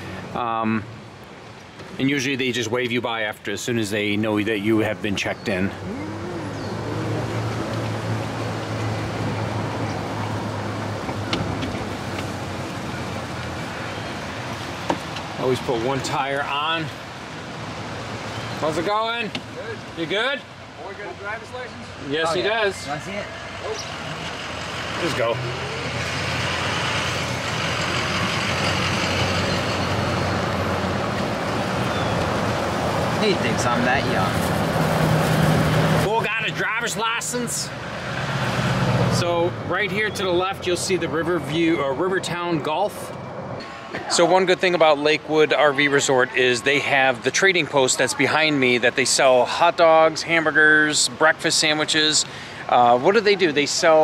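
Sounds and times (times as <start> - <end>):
wind and tyre noise: 0.0 - 48.9.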